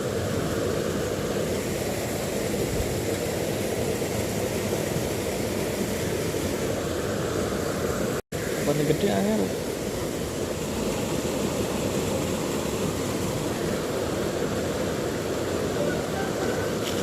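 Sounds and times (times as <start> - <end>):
river water flowing over rocks: 0.0 - 17.0.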